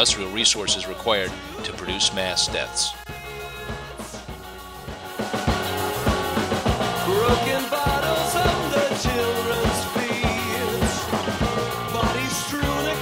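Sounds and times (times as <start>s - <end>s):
music with drum beat and melody: 0.0s - 13.0s.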